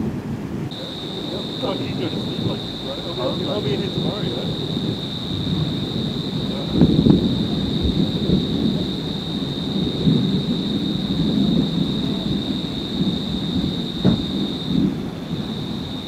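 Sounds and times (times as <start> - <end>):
thunder rumbling: 0.0 - 16.0
high-pitched whine: 0.7 - 16.0.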